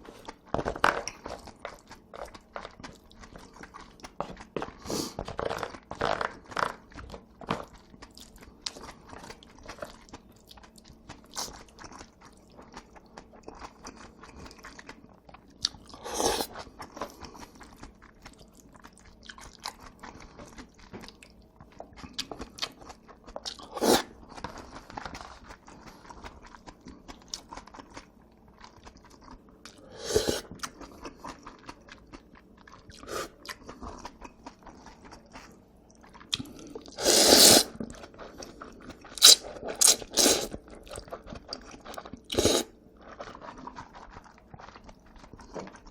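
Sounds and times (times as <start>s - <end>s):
person chewing noodles: 0.0s - 45.9s.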